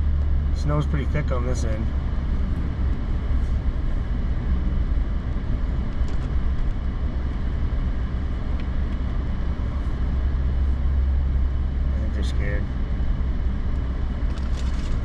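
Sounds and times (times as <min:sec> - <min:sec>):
truck driving on snow rumble: 0:00.0 - 0:15.0.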